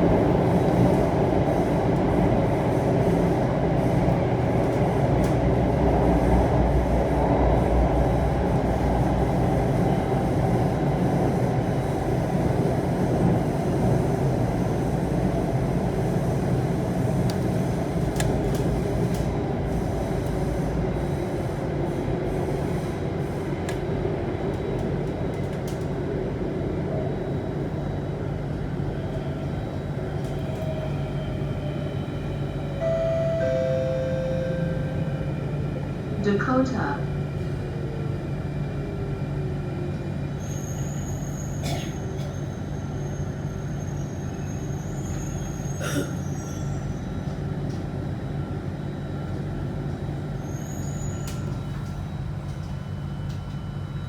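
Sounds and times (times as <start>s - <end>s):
metro train rumbling in tunnel: 0.0s - 54.0s.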